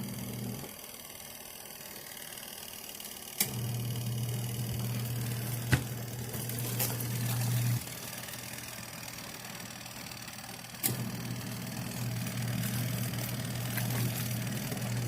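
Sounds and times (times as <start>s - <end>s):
small electric motor humming: 0.0s - 15.0s.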